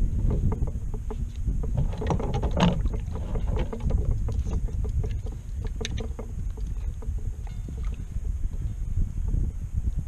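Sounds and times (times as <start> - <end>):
waves slapping against kayak hull: 0.0 - 8.4
wind rumble on microphone: 0.0 - 10.0.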